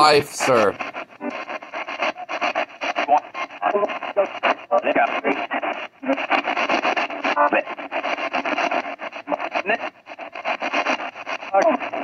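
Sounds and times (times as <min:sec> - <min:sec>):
clipped broadcast scraps: 0:00.0 - 0:12.0
radio static bursts: 0:00.0 - 0:12.0.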